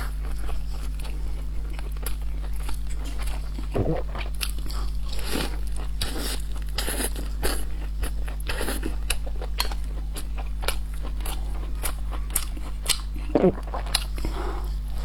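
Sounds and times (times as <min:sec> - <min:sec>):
steady low hum: 0:00.0 - 0:15.0
person chewing and biting food: 0:00.3 - 0:14.9.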